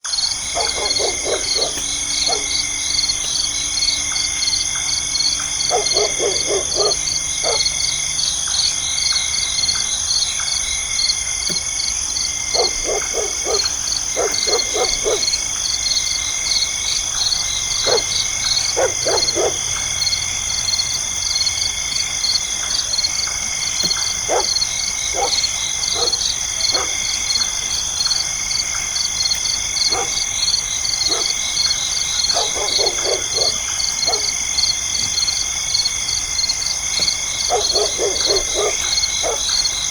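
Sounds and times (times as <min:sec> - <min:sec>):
short lower insect calls: 0:00.0 - 0:39.9
fast pulsing insect chirp: 0:00.1 - 0:39.9.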